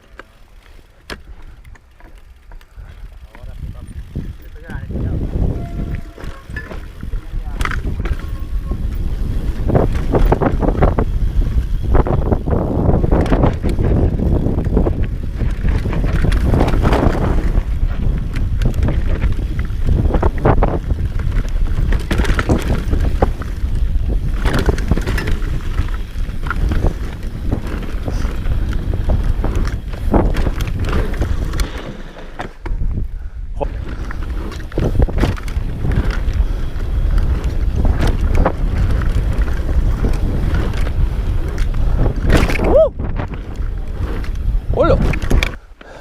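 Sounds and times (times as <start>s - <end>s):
wind buffeting microphone: 1.2s - 46.0s
motorbike rattling and knocking: 3.2s - 11.1s, 11.9s - 32.9s, 34.5s - 42.6s.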